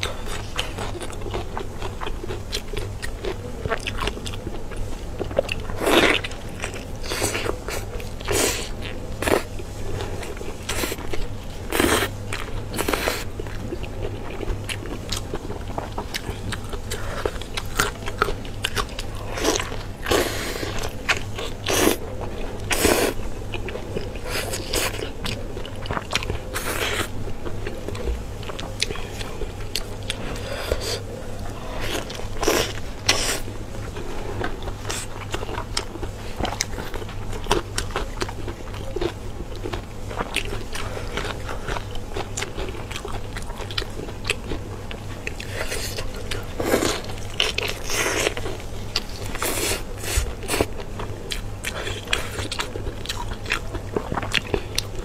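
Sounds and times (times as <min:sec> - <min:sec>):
chewing and biting food: 0:00.0 - 0:55.0.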